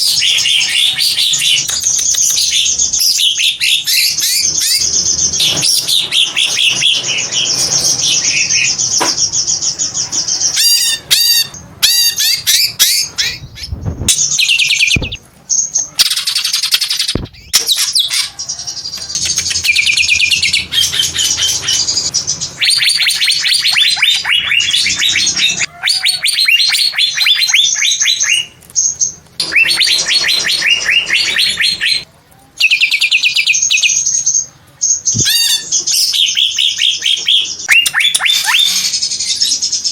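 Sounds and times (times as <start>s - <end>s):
bird chattering and trilling: 0.0s - 39.9s.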